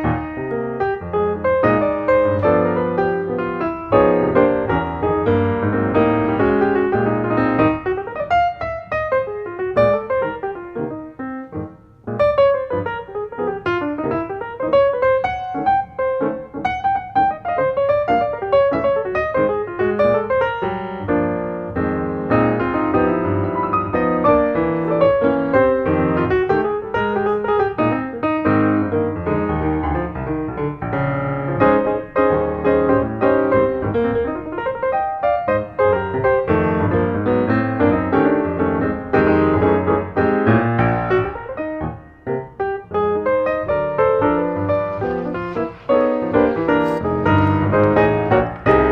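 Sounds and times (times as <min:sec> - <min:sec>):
piano playing quick notes: 0:00.0 - 0:48.9.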